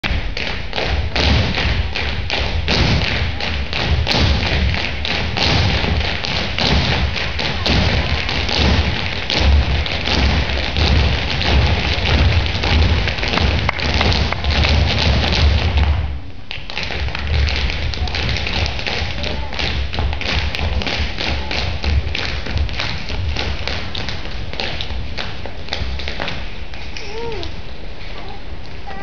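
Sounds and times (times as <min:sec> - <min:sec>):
tap shoes striking stage floor: 0:00.0 - 0:29.0.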